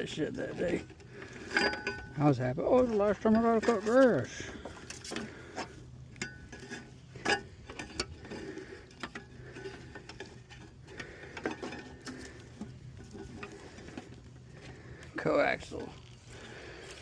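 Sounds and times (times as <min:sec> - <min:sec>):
cable rustling: 0:00.4 - 0:17.0.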